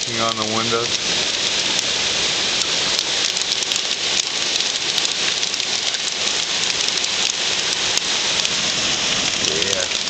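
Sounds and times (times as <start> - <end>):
hailstones clattering: 0.0 - 10.0.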